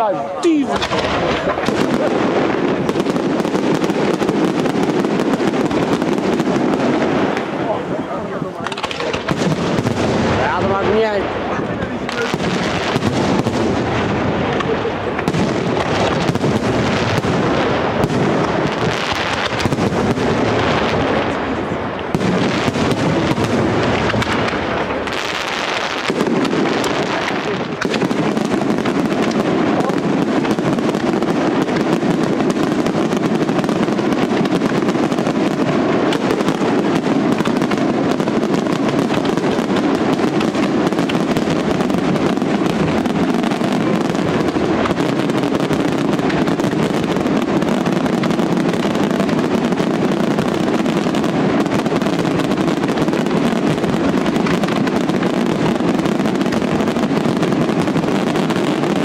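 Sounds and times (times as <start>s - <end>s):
fireworks bangs and crackle: 0.0s - 59.0s.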